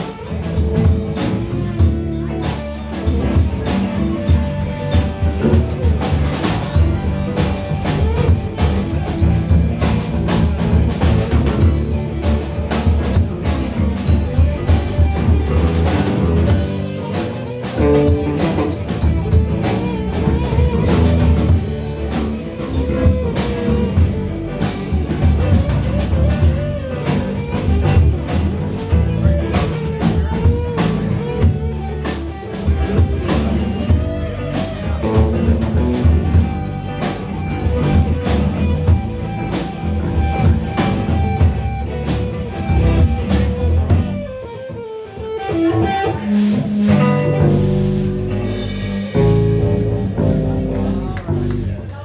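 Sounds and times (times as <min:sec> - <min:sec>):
drum kit: 0:00.0 - 0:52.0
guitar: 0:00.0 - 0:52.0
live band playing instrumental: 0:00.0 - 0:52.0.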